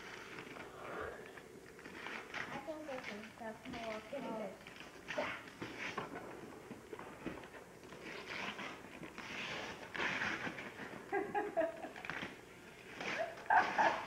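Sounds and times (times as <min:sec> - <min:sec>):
wrapping paper rustling: 0:01.6 - 0:14.0.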